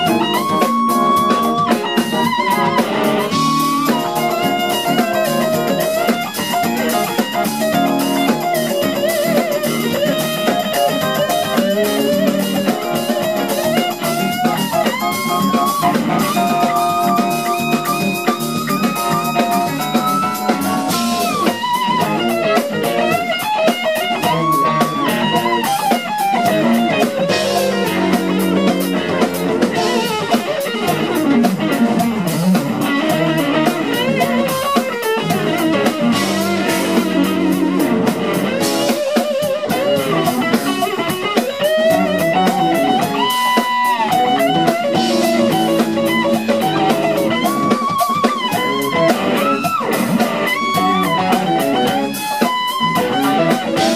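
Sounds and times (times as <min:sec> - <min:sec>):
drum kit: 0:00.0 - 0:53.9
electric guitar solo: 0:00.0 - 0:53.9.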